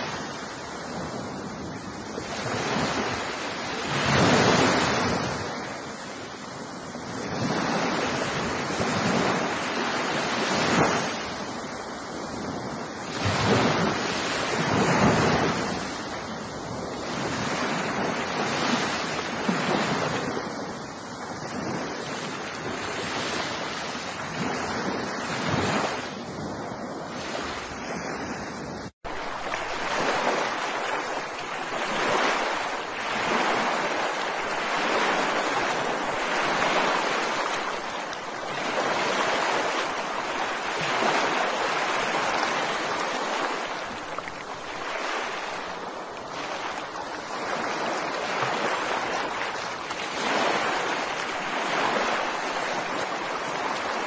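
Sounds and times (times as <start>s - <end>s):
ocean surf washing on shore: 0.0s - 54.0s.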